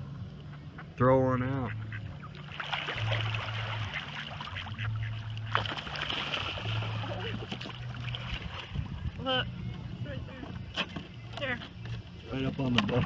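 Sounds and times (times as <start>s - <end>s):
low steady hum: 0.0s - 13.0s
water lapping and splashing: 0.3s - 13.0s
ducks paddling and splashing: 0.4s - 13.0s.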